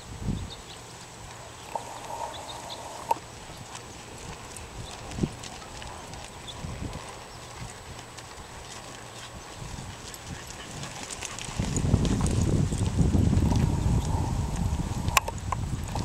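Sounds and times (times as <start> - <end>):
hoofbeats on soft dirt: 0.9 - 16.0.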